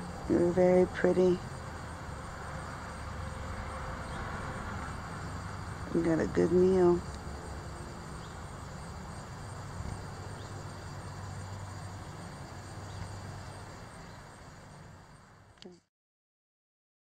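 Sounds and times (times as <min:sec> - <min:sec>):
insect trill: 0:00.0 - 0:15.7
low background noise: 0:00.0 - 0:15.9.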